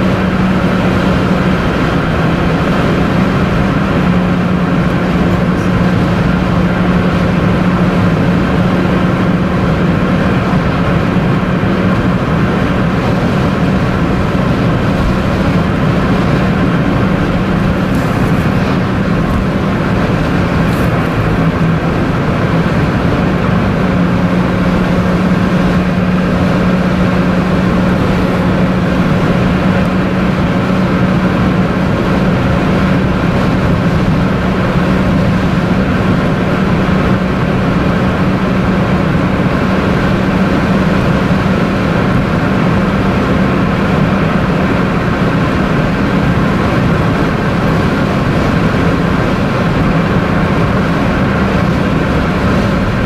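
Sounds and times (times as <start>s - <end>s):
low engine hum: 0.0s - 53.0s
tyres on road: 0.0s - 53.0s.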